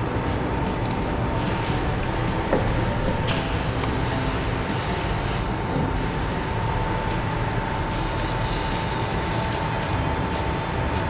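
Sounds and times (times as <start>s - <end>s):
spray booth rushing air: 0.0s - 11.0s
spray gun spraying paint: 0.0s - 11.0s
steady hum: 0.0s - 11.0s.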